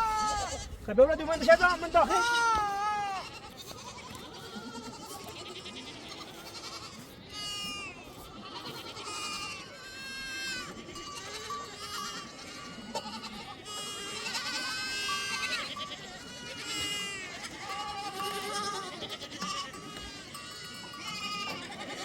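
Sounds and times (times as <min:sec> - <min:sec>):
goats bleating: 0:00.0 - 0:22.0.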